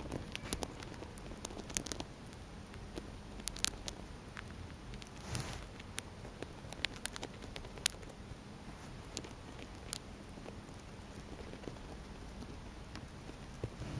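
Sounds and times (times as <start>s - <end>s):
hamster chewing food: 0.0s - 13.9s.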